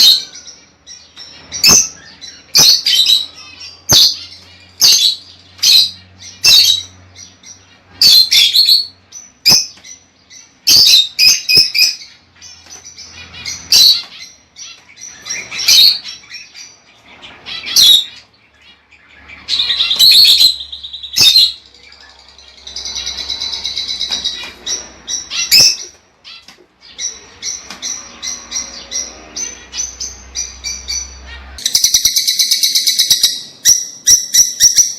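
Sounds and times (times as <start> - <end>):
lovebirds chirping shrilly: 0.0 - 34.9.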